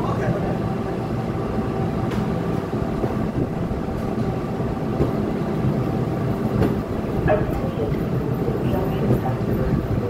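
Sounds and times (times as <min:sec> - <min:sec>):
train equipment humming: 0:00.0 - 0:10.0.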